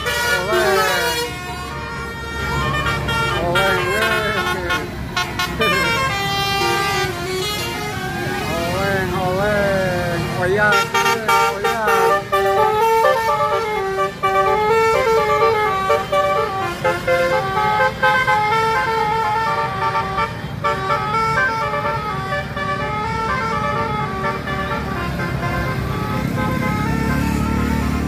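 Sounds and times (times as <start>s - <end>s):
musical bus horn melody: 0.0s - 28.0s
traffic rumble: 0.0s - 28.0s.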